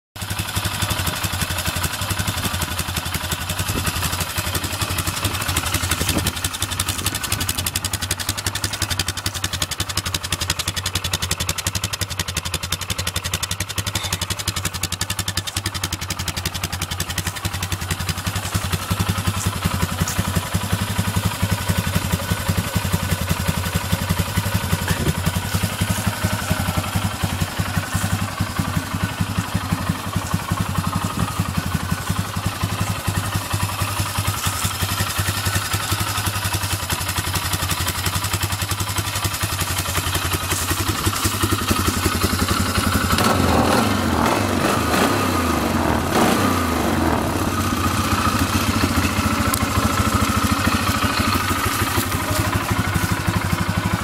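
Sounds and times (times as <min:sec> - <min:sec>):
atv engine idling: 0:00.2 - 0:54.0.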